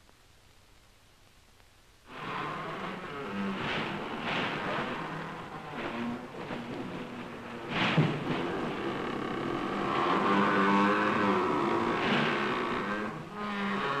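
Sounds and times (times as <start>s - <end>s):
wooden wheel creaking and groaning: 2.1s - 14.0s.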